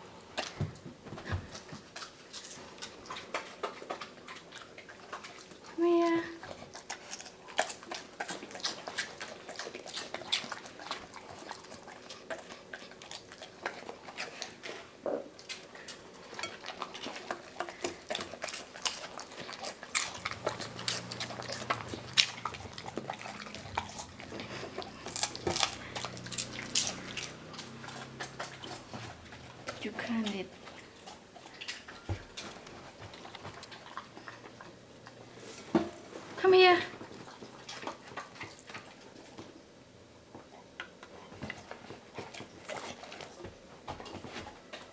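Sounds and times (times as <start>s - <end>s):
dog crunching vegetables: 0.0s - 39.6s, 40.3s - 44.9s.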